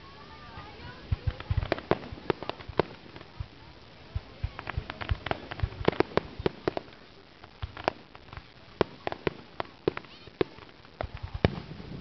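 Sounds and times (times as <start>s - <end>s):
fireworks cracks and pops: 0.4s - 12.0s.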